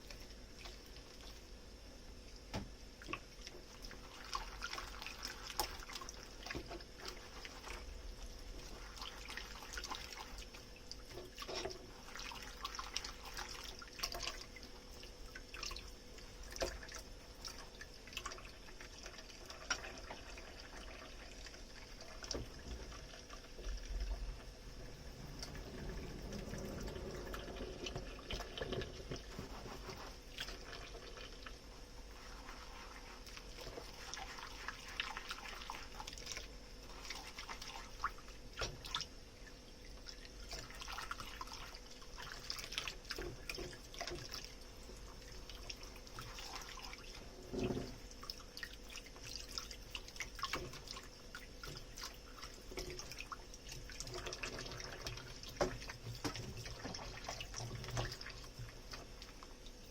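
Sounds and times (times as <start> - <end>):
water splashing and dripping: 2.4 - 59.9.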